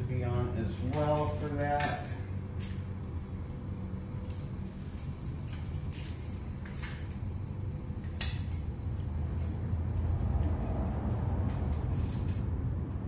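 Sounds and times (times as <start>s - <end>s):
steady low hum: 0.0s - 13.0s
keys jingling: 0.8s - 12.9s.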